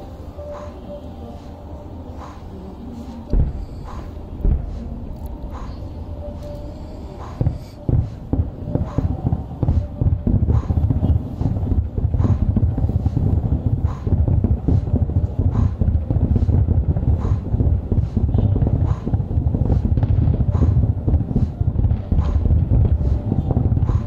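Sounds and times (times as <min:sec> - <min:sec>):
distant fireworks rumble: 0:00.0 - 0:24.0.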